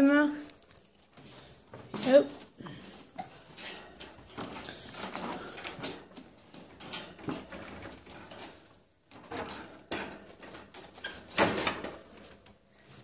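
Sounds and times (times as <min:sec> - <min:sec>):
rustling: 0:00.3 - 0:13.0.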